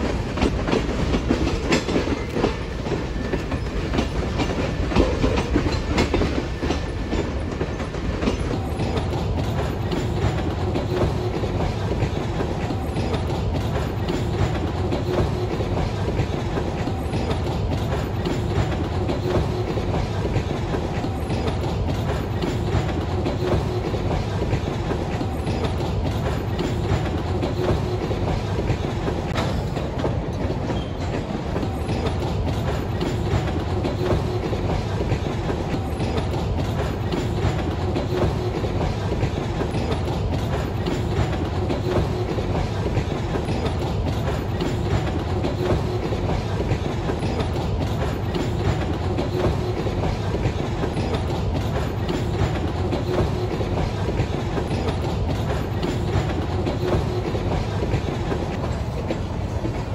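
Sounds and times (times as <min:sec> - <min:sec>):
train wheels rumbling on rail: 0:00.0 - 0:59.9
wheels clicking over rail joints: 0:00.0 - 0:59.9.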